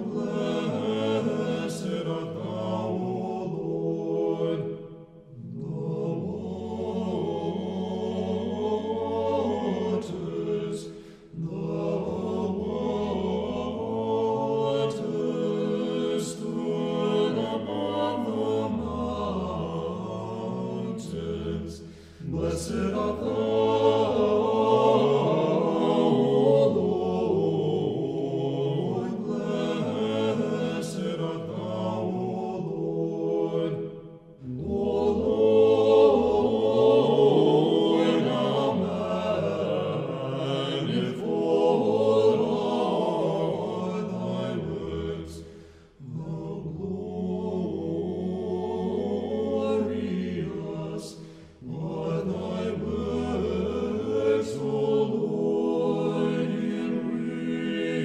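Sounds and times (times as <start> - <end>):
choir chanting: 0.0 - 58.0.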